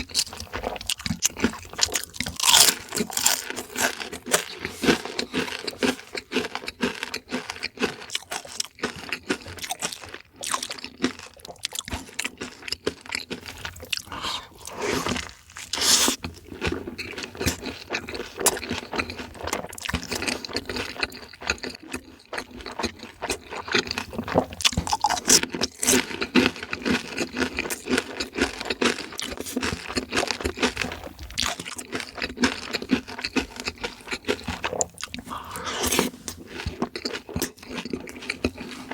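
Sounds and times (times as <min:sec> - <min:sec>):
crunching and chewing fried chicken: 0:00.0 - 0:38.9.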